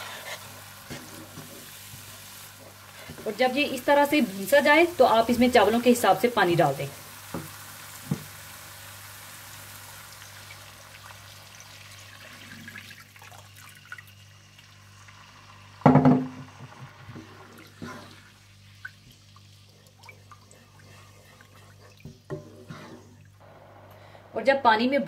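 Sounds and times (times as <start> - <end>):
water hissing in hot pot: 0.0 - 21.9.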